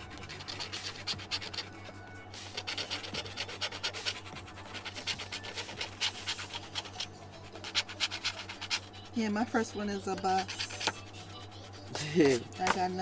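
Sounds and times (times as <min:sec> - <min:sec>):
lottery tickets being scratched: 0:00.0 - 0:13.0.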